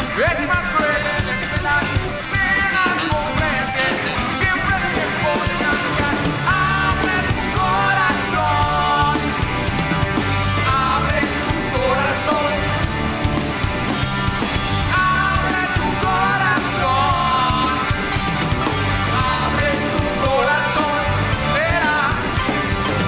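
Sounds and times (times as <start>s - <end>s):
lead vocal singing: 0.0s - 23.0s
rock band playing live: 0.0s - 23.0s.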